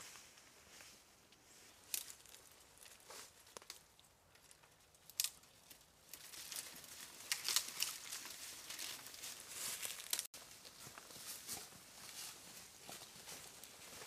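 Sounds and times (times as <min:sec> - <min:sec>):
brush rustling and crackling: 0:00.0 - 0:14.0.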